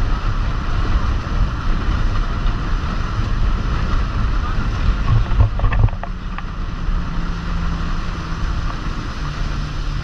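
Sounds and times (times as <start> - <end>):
motorboat engine drone: 0.0 - 10.0
wind buffeting microphone: 0.0 - 10.0.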